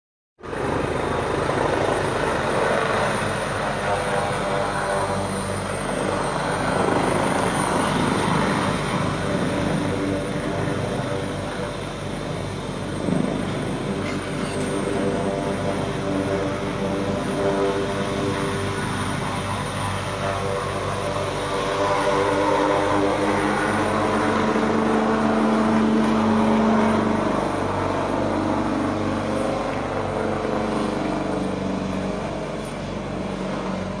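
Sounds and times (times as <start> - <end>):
helicopter engine hum: 0.4 - 34.0
helicopter rotor beating: 0.4 - 34.0.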